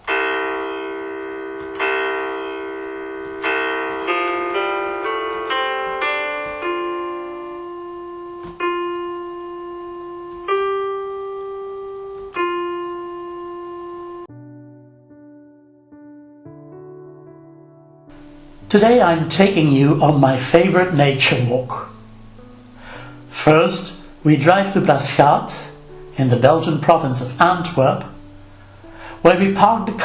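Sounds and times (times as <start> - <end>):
solo piano: 0.0 - 30.0.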